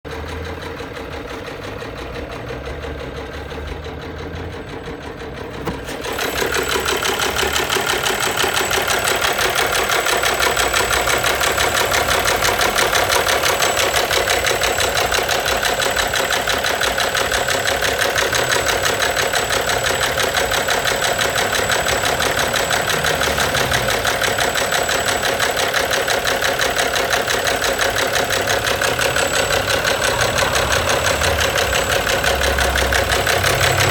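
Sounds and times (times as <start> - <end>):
car engine knocking: 0.0 - 33.9.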